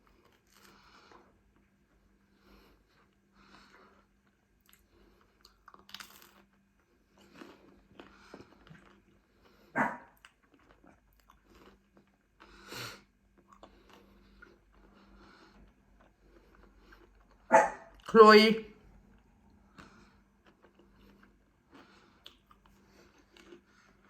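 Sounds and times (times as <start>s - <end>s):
biting and chewing crust: 0.0s - 18.1s, 19.0s - 24.0s.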